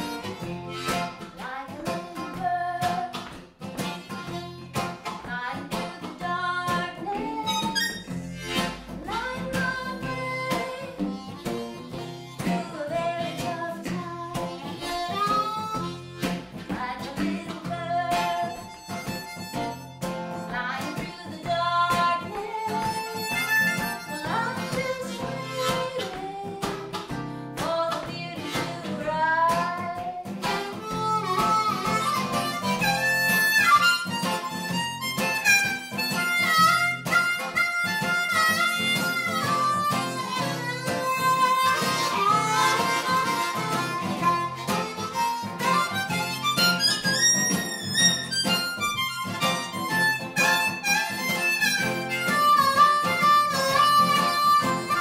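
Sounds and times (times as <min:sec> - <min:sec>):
electric guitar: 0:00.0 - 0:55.0
harmonica: 0:00.0 - 0:55.0
strummed acoustic guitar: 0:00.0 - 0:55.0.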